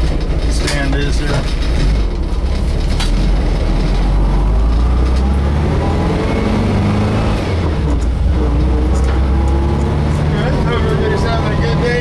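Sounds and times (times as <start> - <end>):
van engine rumbling: 0.0 - 12.0.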